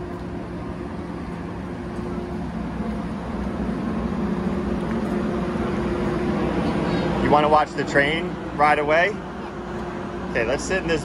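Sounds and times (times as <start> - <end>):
train engine idling: 0.0 - 11.0.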